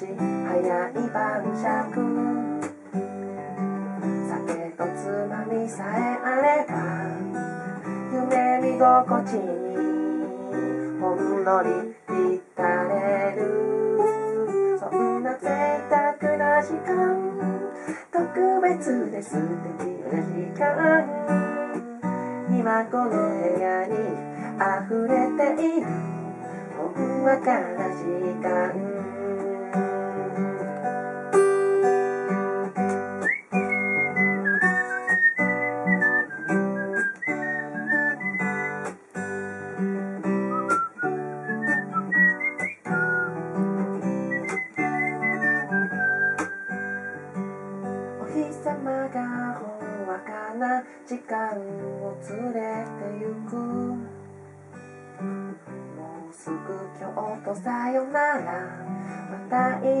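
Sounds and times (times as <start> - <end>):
acoustic guitar plucked and strummed: 0.0 - 60.0.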